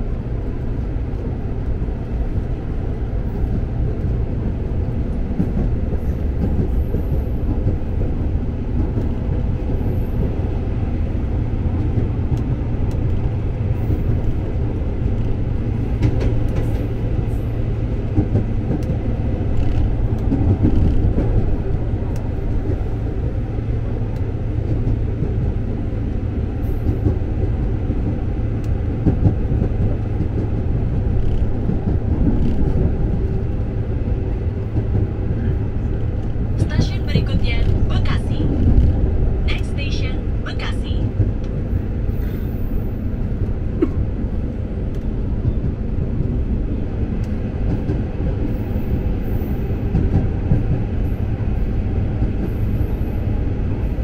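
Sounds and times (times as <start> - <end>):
electric train rumble: 0.0 - 54.0.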